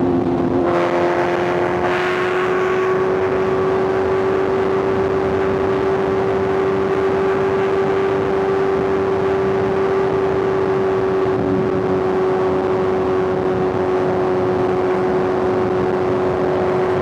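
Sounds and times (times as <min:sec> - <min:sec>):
motorcycle engine at high revs: 0:00.0 - 0:17.0
wind noise: 0:00.0 - 0:17.0.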